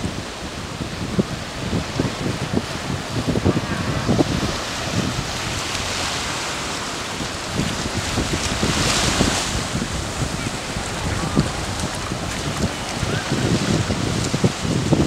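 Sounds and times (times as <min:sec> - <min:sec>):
waves washing up beach: 0:00.0 - 0:15.0
wind buffeting microphone: 0:00.0 - 0:15.0.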